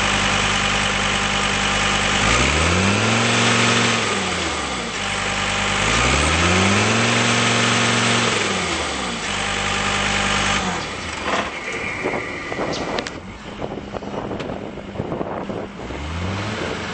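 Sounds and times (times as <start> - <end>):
diesel engine revving: 0.0 - 16.9.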